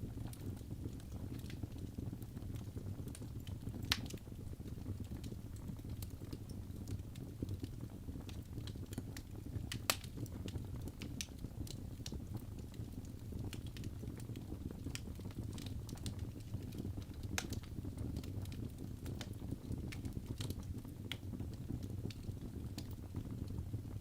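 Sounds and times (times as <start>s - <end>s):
low rumble of flames: 0.0s - 24.0s
logs crackling and popping: 0.1s - 24.0s.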